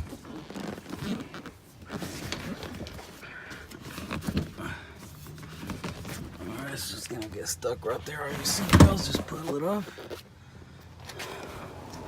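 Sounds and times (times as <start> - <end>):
seat cushion rustling: 0.0 - 10.4.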